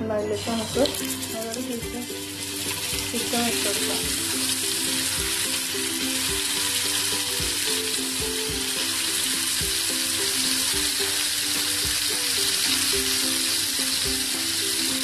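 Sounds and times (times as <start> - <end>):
background music: 0.0 - 15.0
chicken sizzling in oil: 0.3 - 15.0.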